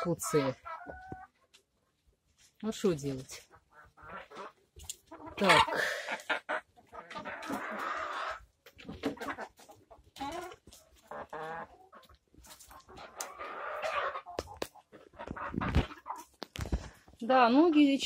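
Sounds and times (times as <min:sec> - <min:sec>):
hens clucking and squawking: 0:00.0 - 0:02.2, 0:03.1 - 0:16.5
birds pecking in straw: 0:00.6 - 0:17.0.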